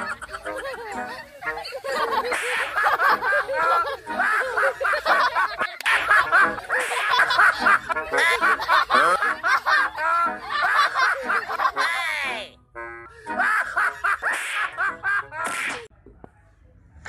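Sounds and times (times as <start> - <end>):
snickering and giggling laughter: 0.0 - 12.0, 13.3 - 15.6.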